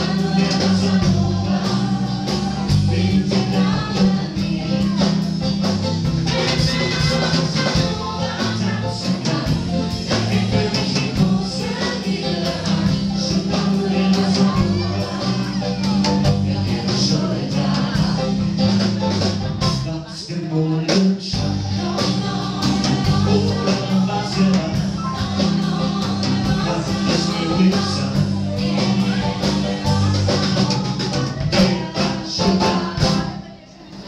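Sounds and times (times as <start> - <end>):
upright bass: 0.0 - 33.4
acoustic guitar: 0.0 - 34.0
drum kit: 0.0 - 34.0.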